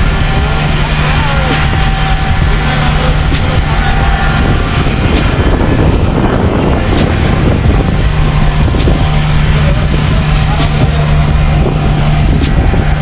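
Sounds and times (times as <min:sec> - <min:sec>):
heavy machinery engine humming: 0:00.0 - 0:13.0
wind rumbling on microphone: 0:00.0 - 0:13.0.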